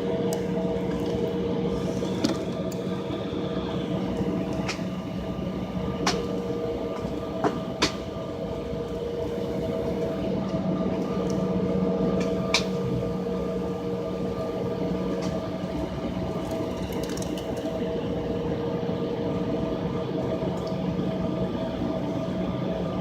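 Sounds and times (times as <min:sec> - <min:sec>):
airliner cabin engine hum: 0:00.0 - 0:23.0.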